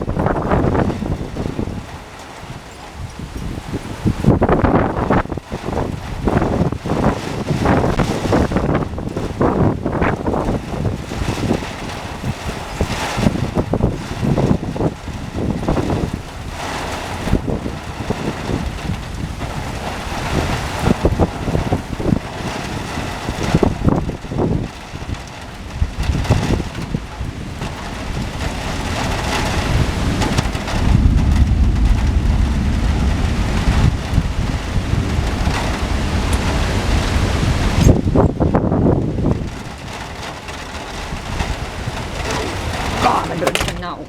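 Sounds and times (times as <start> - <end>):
wind gusting across microphone: 0.0 - 44.0.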